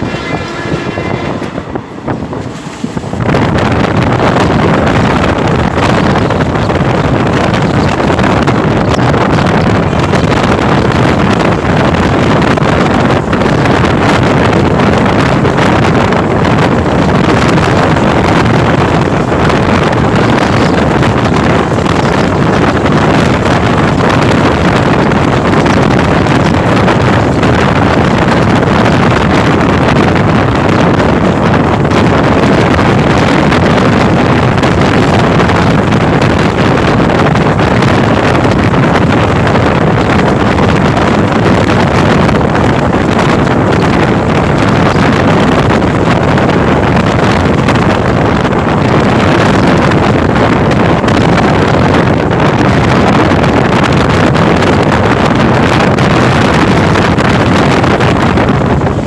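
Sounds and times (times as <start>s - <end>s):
train running noise at speed: 0.0s - 59.0s
wind buffeting microphone: 0.0s - 59.0s.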